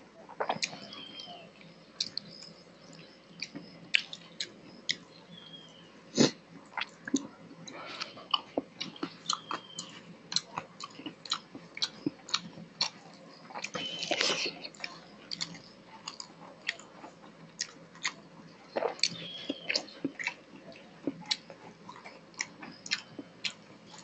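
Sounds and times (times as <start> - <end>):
man chewing with lip smacks: 0.3 - 5.1, 6.2 - 24.0.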